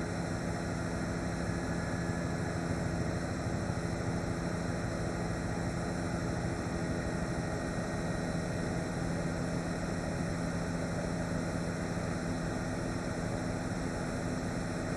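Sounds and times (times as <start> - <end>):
helicopter engine and rotor drone: 0.0 - 14.9.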